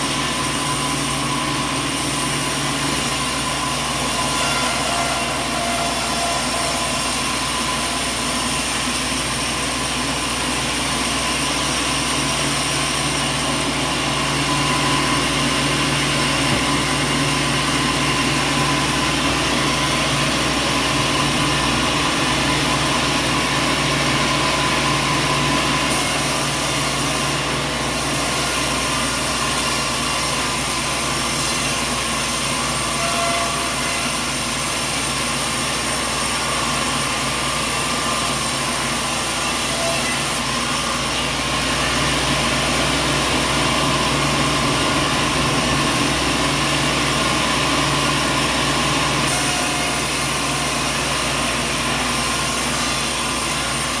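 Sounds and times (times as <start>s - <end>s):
machinery drone with whine: 0.0s - 54.0s.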